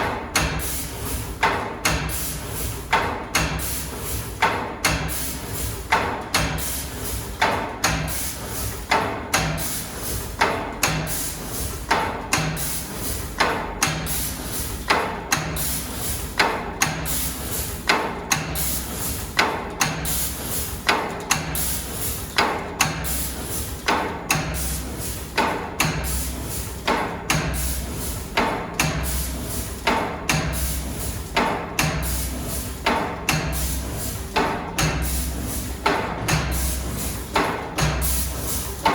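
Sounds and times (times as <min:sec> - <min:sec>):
low machine hum and hiss: 0:00.0 - 0:38.9
machine mechanical clacks: 0:00.0 - 0:38.9.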